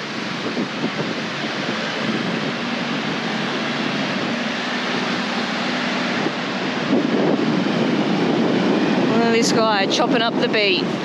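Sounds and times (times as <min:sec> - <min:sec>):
car engine hum: 0:00.0 - 0:11.0
surf: 0:00.0 - 0:11.0
wind rushing: 0:00.0 - 0:11.0.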